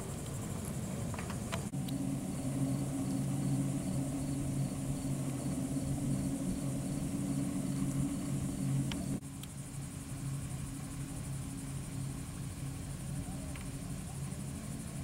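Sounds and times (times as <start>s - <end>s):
engine humming: 0.0s - 15.0s
insects buzzing: 0.0s - 15.0s.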